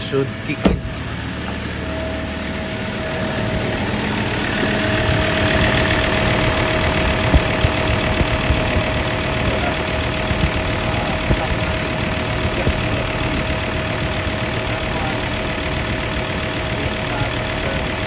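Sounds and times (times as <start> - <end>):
diesel engine idling: 0.0 - 18.0
faint whine: 0.0 - 18.0.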